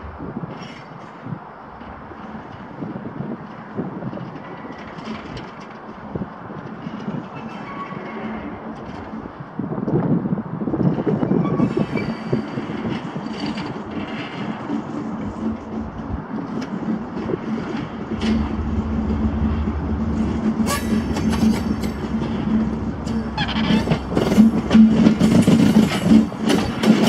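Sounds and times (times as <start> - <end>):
diesel locomotive engine: 0.0 - 27.0
wheels clicking over rail joints: 0.2 - 27.0.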